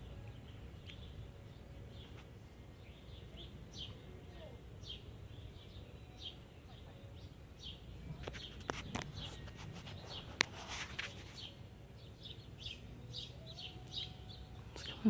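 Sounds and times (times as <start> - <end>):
birds chirping: 0.0 - 15.0
low steady background noise: 0.0 - 15.0.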